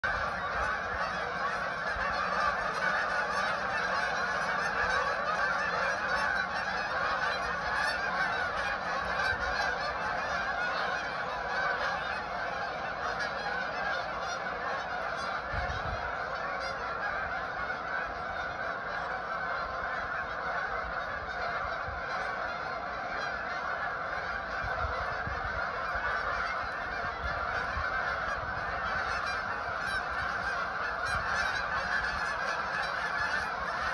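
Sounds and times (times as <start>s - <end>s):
geese calling: 0.0s - 33.9s.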